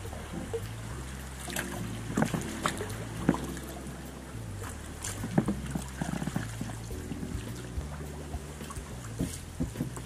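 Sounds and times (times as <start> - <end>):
paddle splashing in water: 0.0 - 10.0
soft background music: 0.0 - 10.0.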